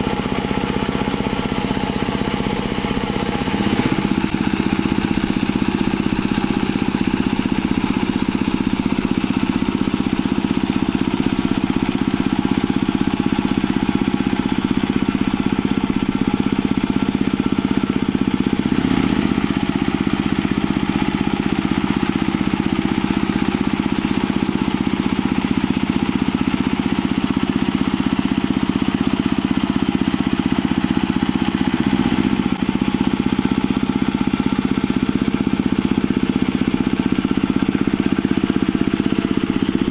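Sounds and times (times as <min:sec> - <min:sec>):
diesel engine running under load: 0:00.0 - 0:39.9
tiller churning wet mud: 0:00.0 - 0:39.9.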